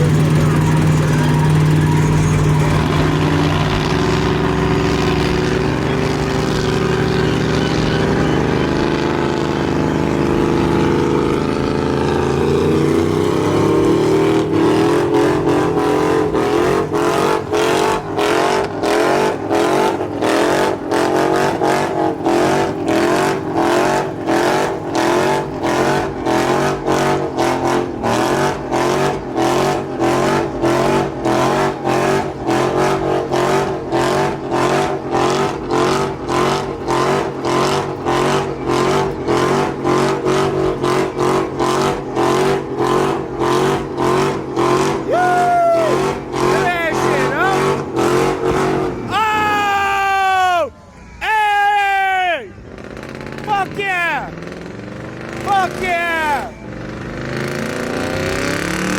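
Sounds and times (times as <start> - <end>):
truck engine revving: 0.0 - 58.9.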